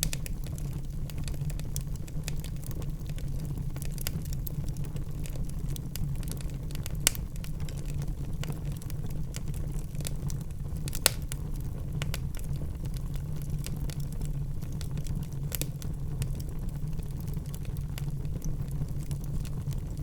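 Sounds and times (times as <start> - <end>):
fireplace logs burning and crackling: 0.0 - 20.0.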